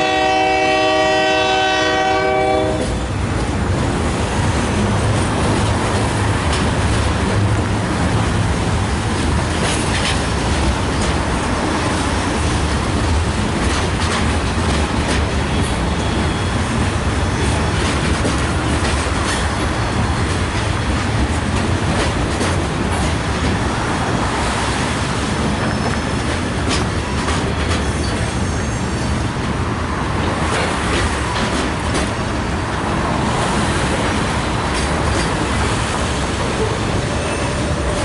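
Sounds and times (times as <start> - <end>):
rail clicks and clacks: 0.0 - 38.0
train wheels rumbling on rails: 0.0 - 38.0.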